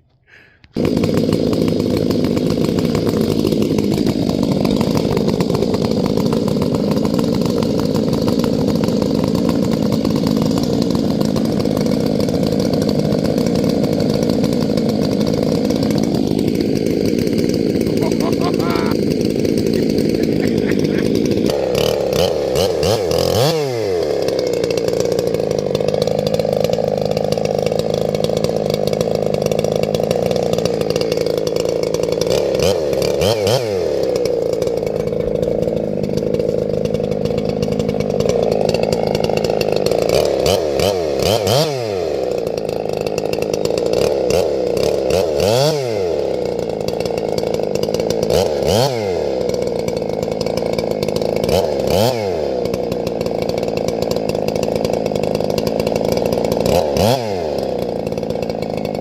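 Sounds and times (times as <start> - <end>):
chainsaw at full throttle: 0.0 - 59.0.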